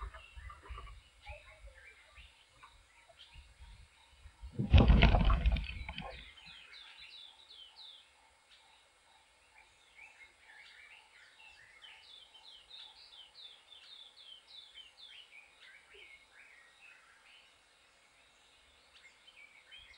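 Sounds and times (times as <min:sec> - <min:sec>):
birds calling: 0:00.0 - 0:17.6.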